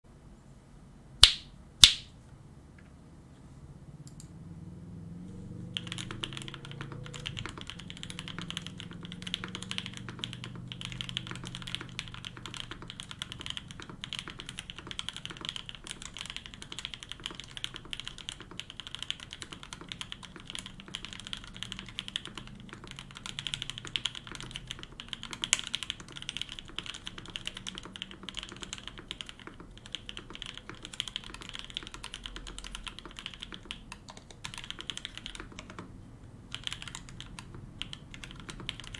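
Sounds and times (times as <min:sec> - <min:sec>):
mechanical keyboard typing: 0:05.7 - 0:38.9.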